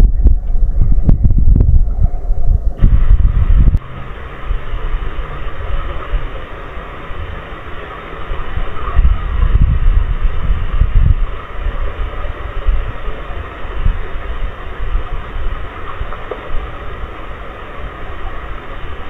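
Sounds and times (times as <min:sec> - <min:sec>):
deep uneven rumbling: 0:00.0 - 0:19.0
heavy rain on microphone: 0:02.5 - 0:19.0.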